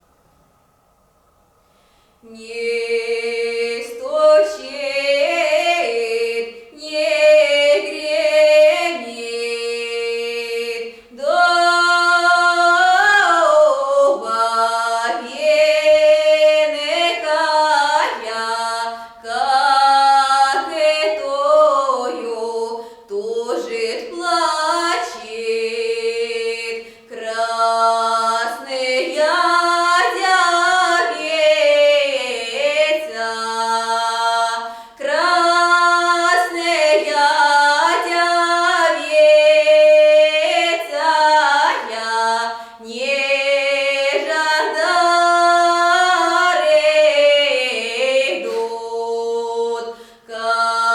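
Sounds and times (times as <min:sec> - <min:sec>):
woman singing unaccompanied: 0:02.2 - 0:50.9.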